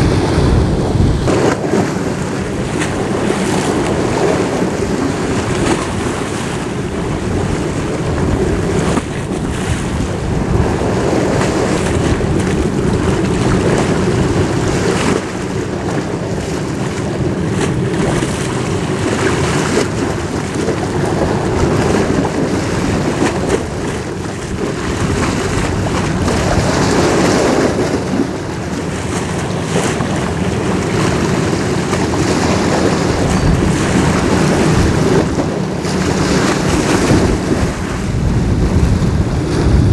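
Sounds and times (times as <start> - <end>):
harbour water washing: 0.0 - 39.9
wind buffeting microphone: 0.0 - 39.9.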